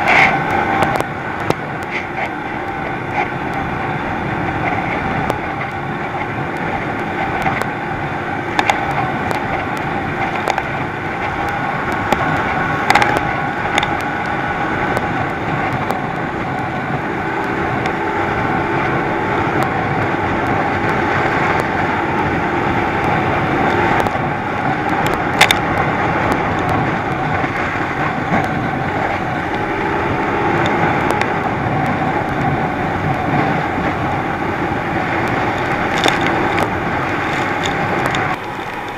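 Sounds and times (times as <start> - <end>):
outboard engine running: 0.0 - 38.9
water rushing along hull: 0.0 - 38.9.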